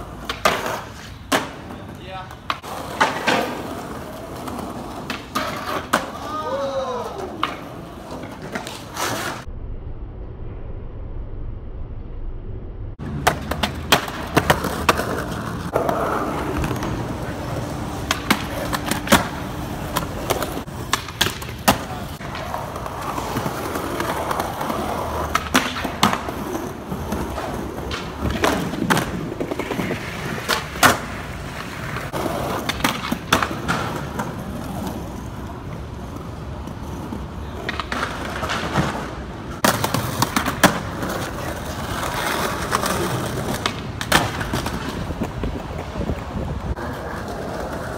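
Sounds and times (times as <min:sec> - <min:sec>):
skateboard wheels rolling on concrete: 0:00.0 - 0:09.5, 0:13.0 - 0:47.9
skateboards clacking: 0:00.0 - 0:09.5, 0:13.0 - 0:47.9.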